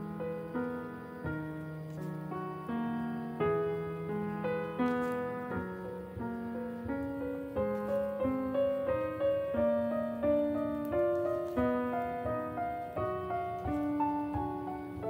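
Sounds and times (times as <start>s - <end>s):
calm piano melody: 0.0s - 15.0s.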